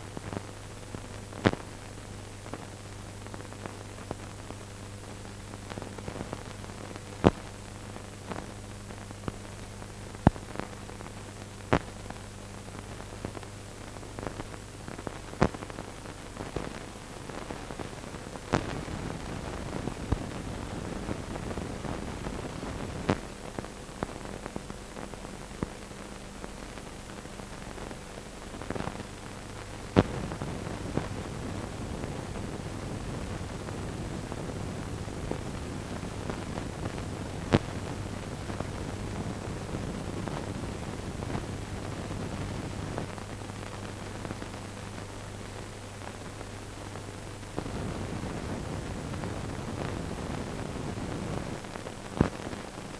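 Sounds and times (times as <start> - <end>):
low mains hum: 0.0 - 52.9
steady hiss: 0.0 - 52.9
sharp crackles: 0.1 - 46.2, 46.9 - 52.9.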